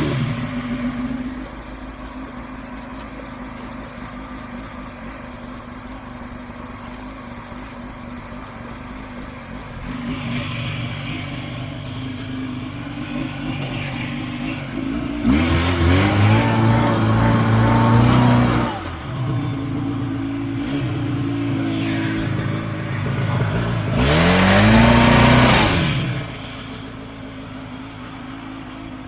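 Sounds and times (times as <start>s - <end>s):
snowmobile engine running: 0.0s - 5.7s, 6.6s - 29.0s.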